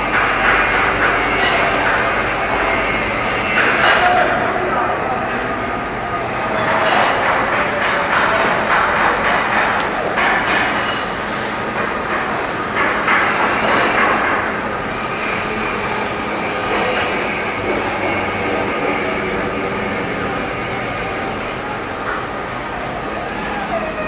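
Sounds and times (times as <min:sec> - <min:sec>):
engine-room machinery din: 0:00.0 - 0:24.0
steady machinery hums: 0:00.0 - 0:24.0.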